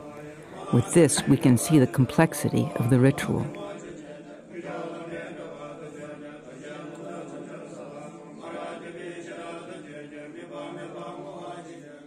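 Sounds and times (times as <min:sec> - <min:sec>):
monks chanting prayers: 0:00.0 - 0:12.0.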